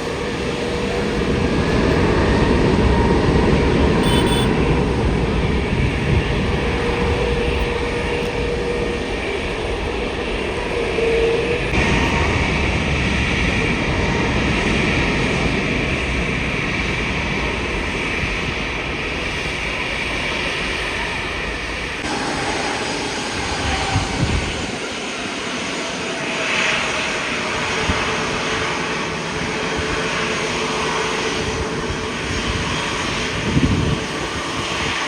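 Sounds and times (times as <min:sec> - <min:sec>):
jet engines rumbling with whine: 0:00.0 - 0:35.0.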